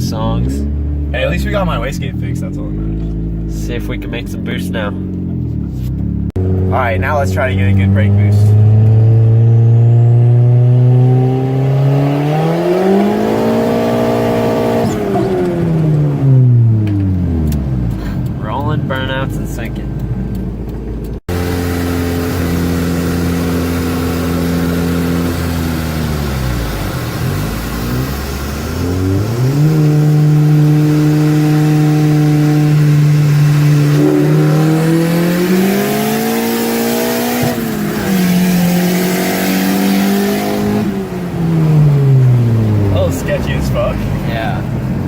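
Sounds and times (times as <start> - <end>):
turbocharged car engine revving: 0.0 - 45.0.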